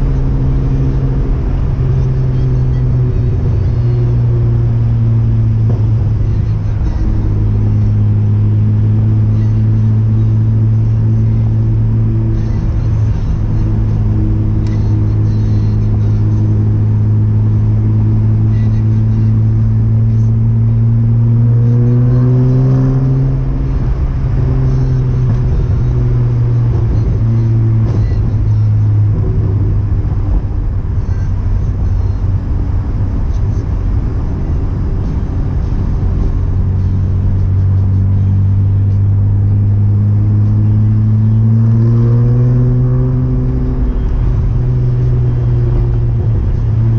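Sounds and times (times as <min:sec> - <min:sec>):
car engine running: 0:00.0 - 0:46.9.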